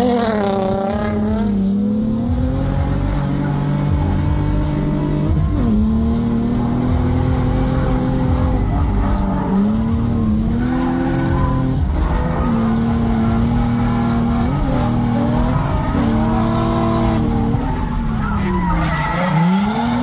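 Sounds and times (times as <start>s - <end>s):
car engine at high revs: 0.0s - 20.0s
tyres skidding: 0.0s - 20.0s.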